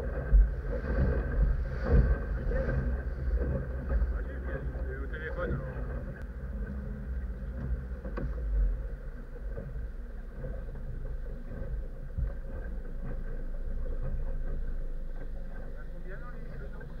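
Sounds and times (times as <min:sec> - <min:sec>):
boat thumps: 0:00.0 - 0:17.0
outboard motor running: 0:00.0 - 0:17.0.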